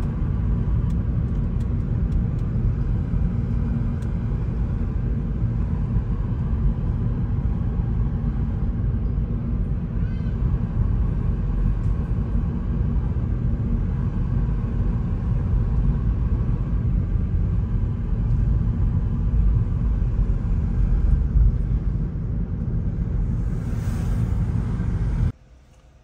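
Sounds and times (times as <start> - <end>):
car driving rumble from inside: 0.0 - 26.0.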